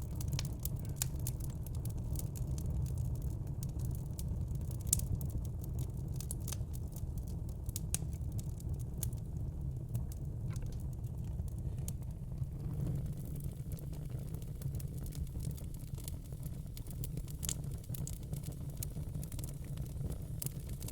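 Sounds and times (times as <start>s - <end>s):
low fire rumble: 0.0s - 20.9s
wood fire crackling and popping: 0.0s - 20.9s.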